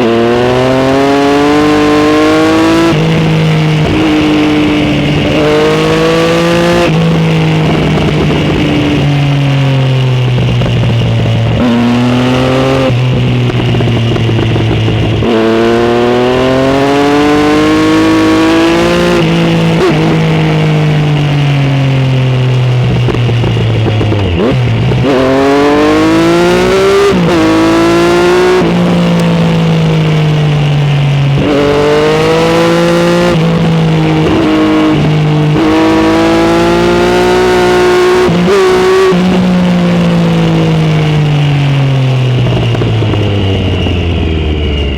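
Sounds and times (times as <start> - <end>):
motorcycle engine accelerating: 0.0 - 44.9
wind and road noise: 0.0 - 44.9.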